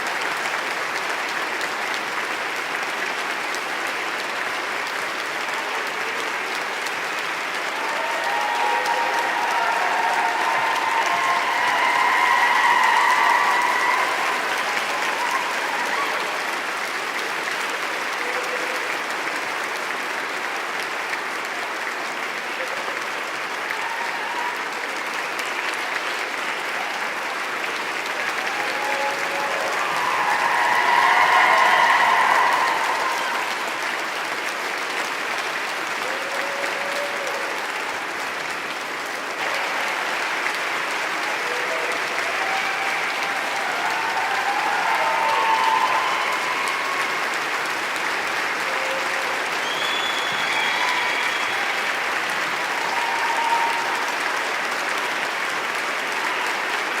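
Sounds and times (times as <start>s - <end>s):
crowd applauding: 0.0s - 57.0s.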